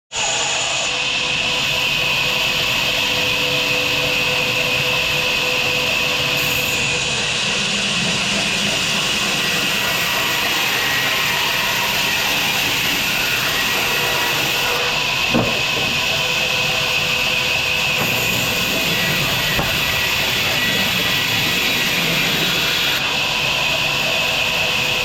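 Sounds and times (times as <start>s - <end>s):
sawmill machinery running: 0.2s - 25.0s.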